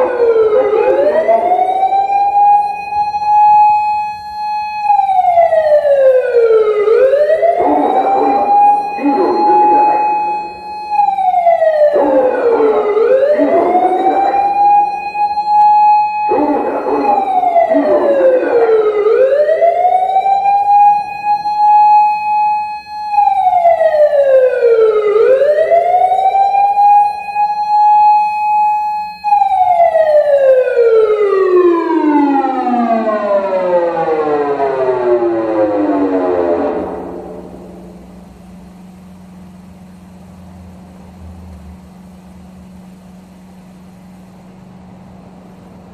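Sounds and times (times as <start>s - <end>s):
wailing electronic siren: 0.0s - 45.9s.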